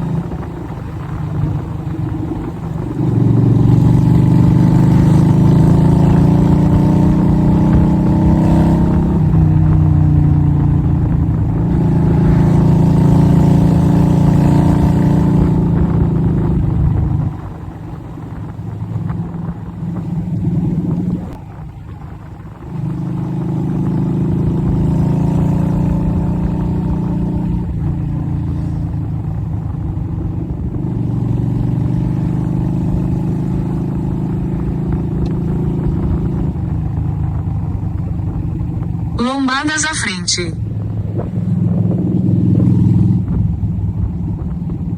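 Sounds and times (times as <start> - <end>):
motorcycle engine running: 0.0 - 39.2, 40.6 - 44.9.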